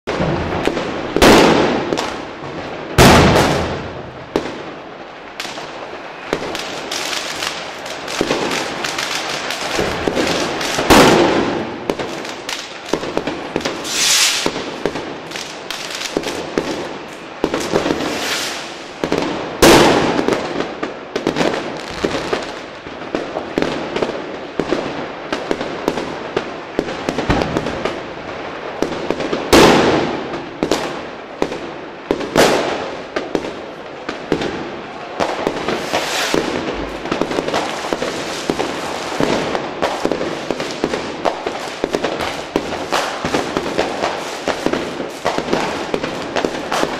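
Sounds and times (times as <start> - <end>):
firecrackers crackling and popping: 0.0 - 46.9
loud firework bangs: 0.1 - 46.9.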